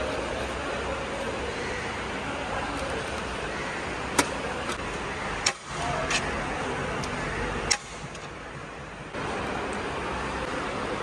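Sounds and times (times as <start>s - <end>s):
busy railway platform noise: 0.0s - 11.0s.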